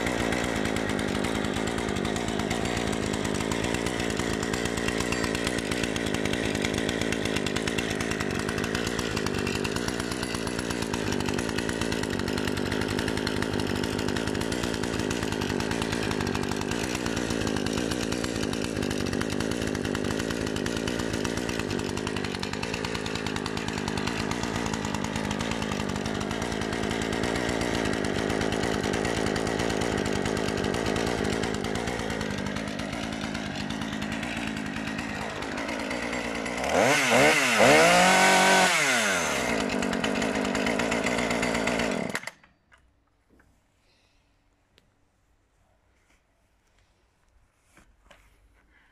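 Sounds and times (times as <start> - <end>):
chainsaw engine idling: 0.0 - 42.8.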